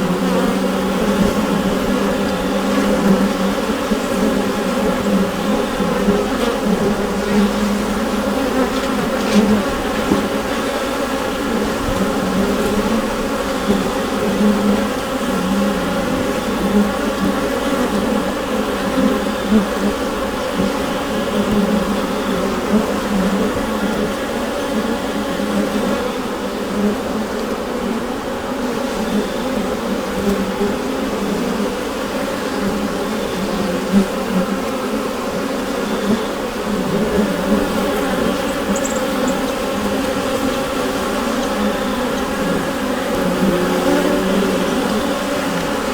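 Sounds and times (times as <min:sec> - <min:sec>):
bees buzzing in hive: 0:00.0 - 0:45.9.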